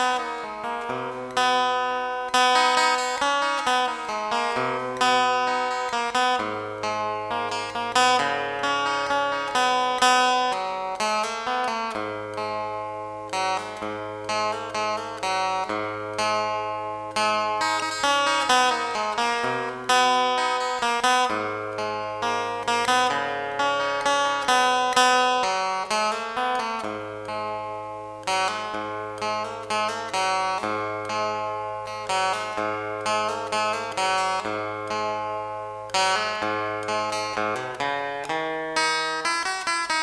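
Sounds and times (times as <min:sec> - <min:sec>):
acoustic guitar picking: 0:00.0 - 0:40.0.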